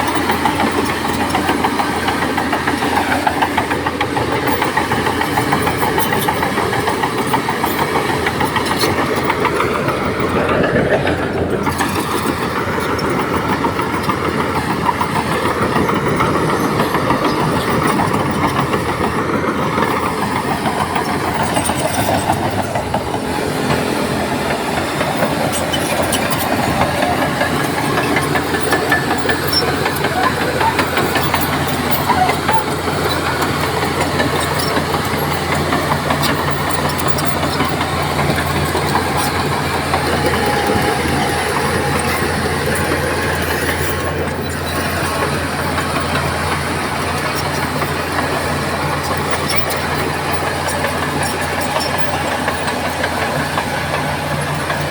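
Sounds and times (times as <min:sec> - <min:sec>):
bulldozer diesel engine running: 0:00.0 - 0:54.9
steel tracks clanking: 0:00.0 - 0:54.9.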